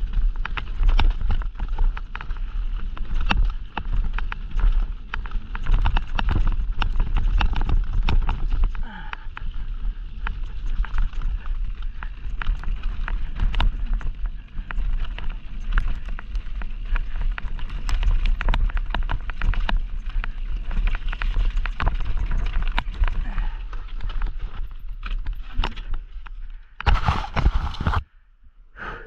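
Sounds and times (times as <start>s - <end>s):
bike tyres rumbling over dirt: 0.0s - 28.1s.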